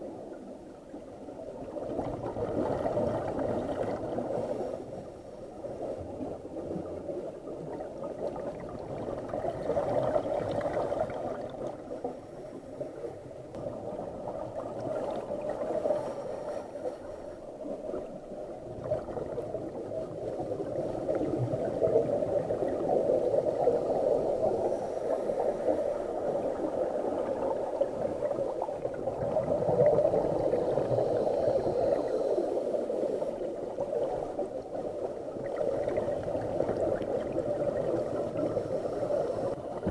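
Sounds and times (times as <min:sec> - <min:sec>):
muffled underwater gurgling: 0:05.7 - 0:39.9.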